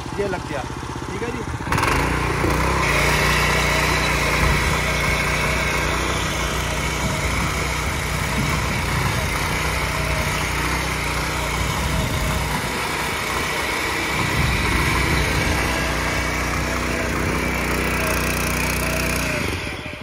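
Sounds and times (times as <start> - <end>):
power tiller engine running: 0.0 - 20.0
tines churning dry soil: 0.0 - 20.0.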